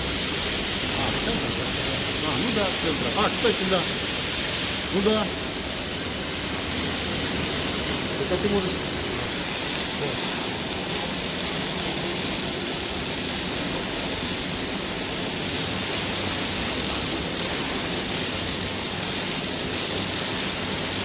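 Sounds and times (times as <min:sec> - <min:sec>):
machine running hiss and hum: 0:00.0 - 0:21.0.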